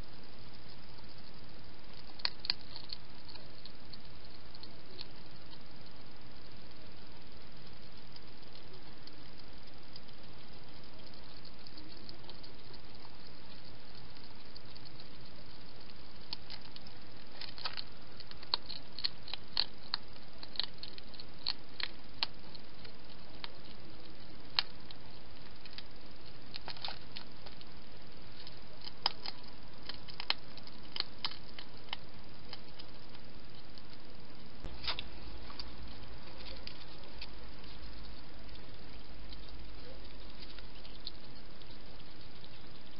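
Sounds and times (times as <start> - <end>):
hedgehog crunching food: 0.0 - 42.9
steady hiss: 0.0 - 42.9.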